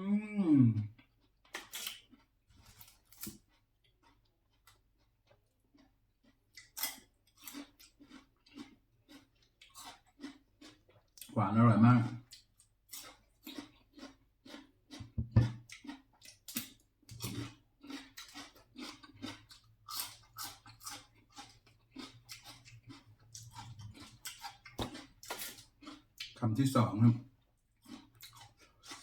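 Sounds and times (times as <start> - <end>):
person chewing wet smacks: 0.8 - 11.4, 12.0 - 26.4, 27.5 - 29.0.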